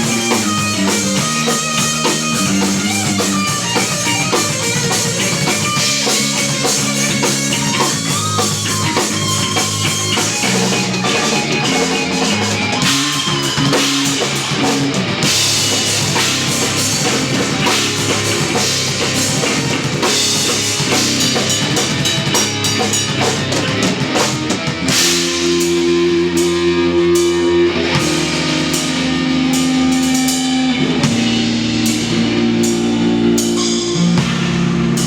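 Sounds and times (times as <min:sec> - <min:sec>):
drum kit with cymbals: 0:00.0 - 0:35.0
electric bass: 0:00.0 - 0:35.0
electric guitar: 0:00.0 - 0:35.0.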